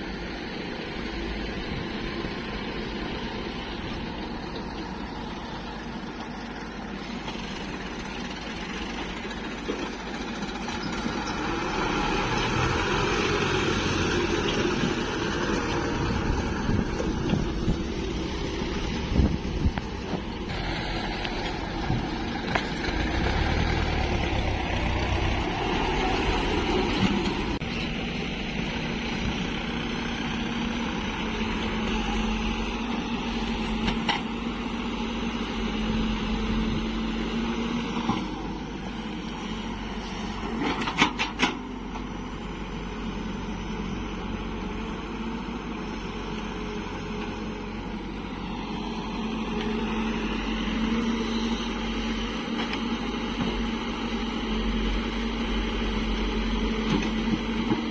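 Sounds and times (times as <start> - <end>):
diesel engines running: 0.0 - 57.9
excavator loading soil: 0.0 - 57.9.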